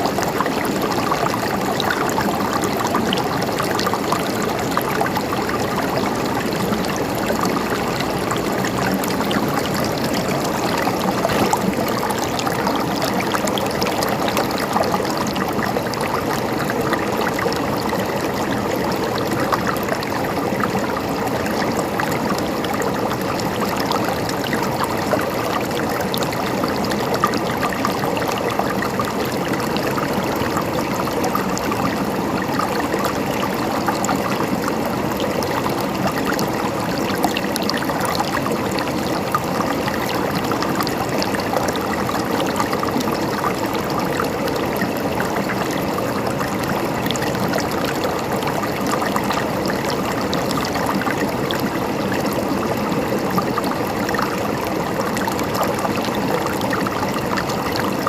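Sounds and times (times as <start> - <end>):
water babbling and trickling: 0.0 - 58.0.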